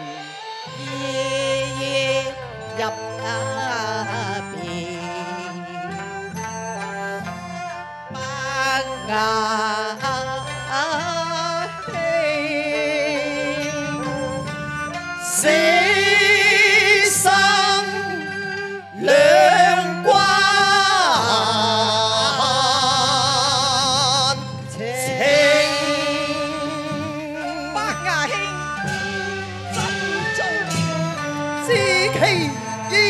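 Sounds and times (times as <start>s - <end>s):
instrumental accompaniment: 0.0s - 33.0s
man and woman singing opera duet: 0.1s - 7.4s, 8.2s - 14.4s, 15.2s - 28.0s, 28.9s - 33.0s.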